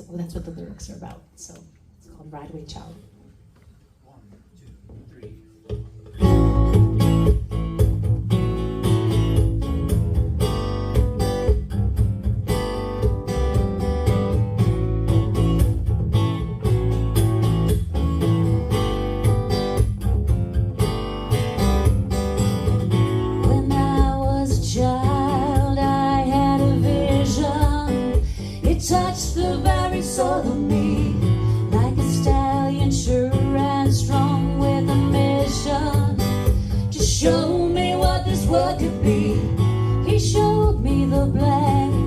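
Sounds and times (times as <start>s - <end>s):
guitar strumming chords: 5.6s - 42.0s.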